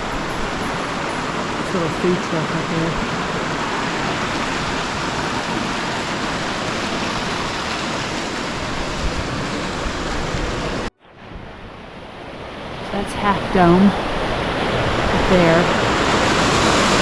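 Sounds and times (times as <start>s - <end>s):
running water rushing: 0.0s - 17.0s
wind buffeting microphone: 0.0s - 17.0s.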